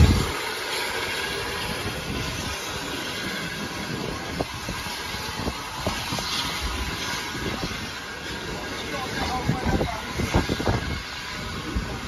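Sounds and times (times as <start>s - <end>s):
railway coaches rumbling: 0.0s - 12.0s.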